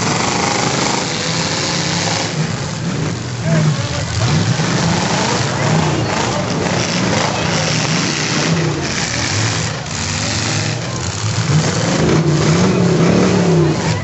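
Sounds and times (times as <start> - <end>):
car engines revving loudly: 0.0 - 14.0.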